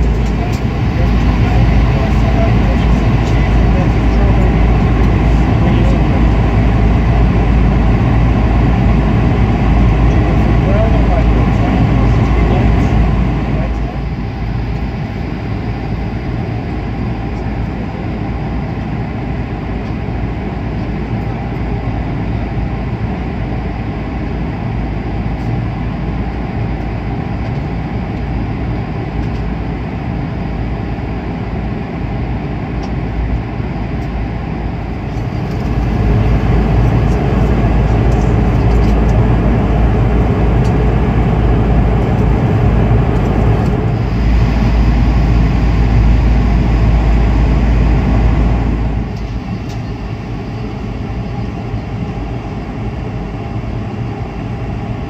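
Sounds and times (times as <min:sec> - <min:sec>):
airliner cabin engine rush: 0:00.0 - 0:55.0.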